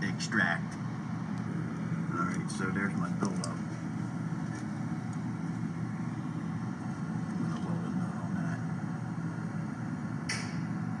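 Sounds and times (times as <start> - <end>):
low mechanical machinery hum: 0.0 - 11.0.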